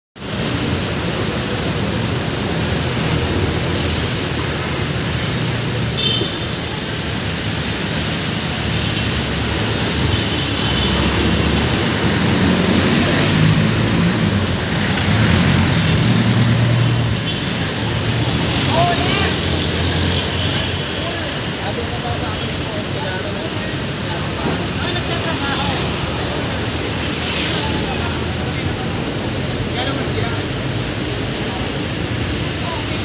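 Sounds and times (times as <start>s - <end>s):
street noise: 0.2s - 33.0s.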